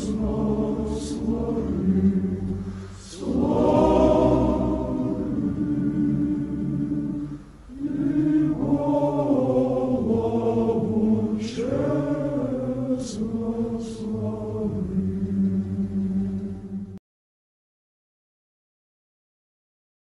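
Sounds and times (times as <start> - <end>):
choir chanting: 0.0 - 17.0
low held drone: 0.0 - 17.0.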